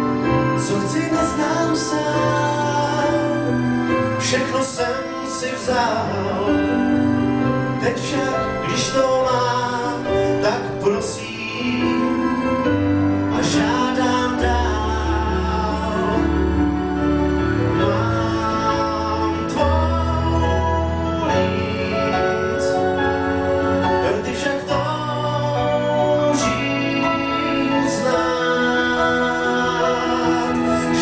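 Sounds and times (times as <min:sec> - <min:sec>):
man singing into a microphone: 0:00.0 - 0:31.0
pop backing track: 0:00.0 - 0:31.0.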